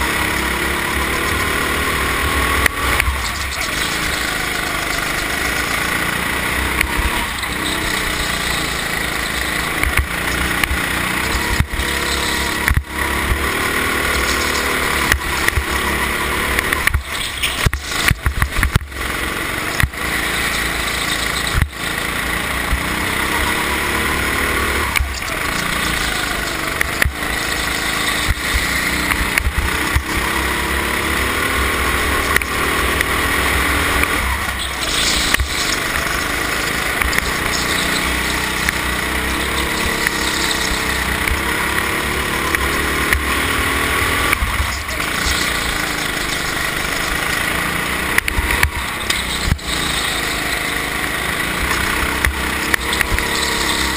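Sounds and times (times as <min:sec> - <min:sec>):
kart engine revving: 0:00.0 - 0:53.9.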